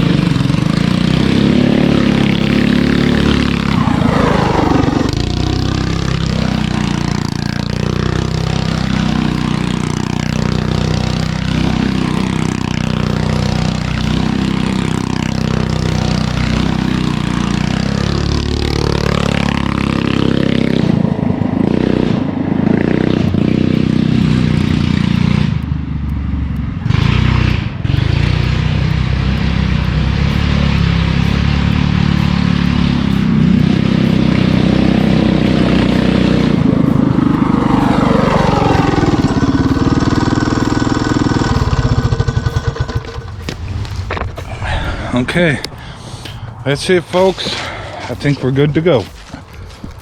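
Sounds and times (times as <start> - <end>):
go-kart engine running hard: 0.0 - 50.0.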